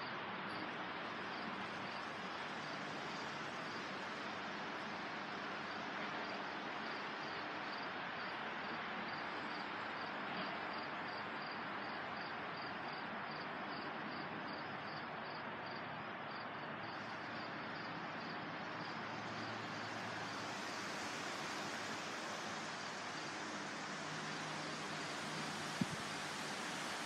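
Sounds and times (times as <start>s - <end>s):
wind rustling leaves: 0.0s - 15.7s, 16.7s - 27.0s.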